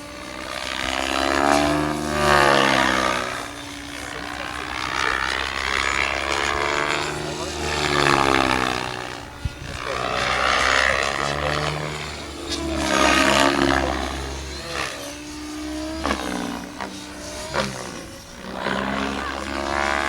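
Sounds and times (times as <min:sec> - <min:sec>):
rc helicopter rotor whooshing: 0:00.0 - 0:20.0.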